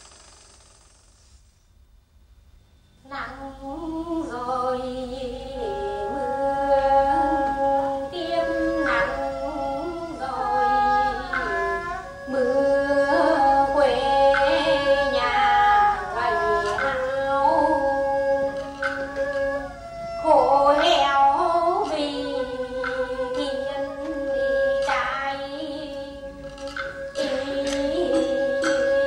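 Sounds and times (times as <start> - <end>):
women singing together: 3.2 - 19.1, 20.3 - 29.0.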